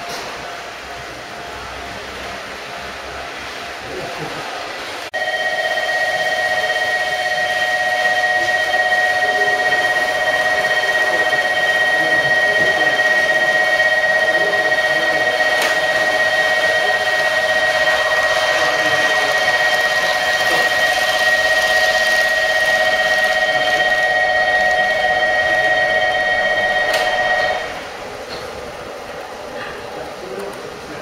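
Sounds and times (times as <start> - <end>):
high electric whine: 0.0 - 29.6.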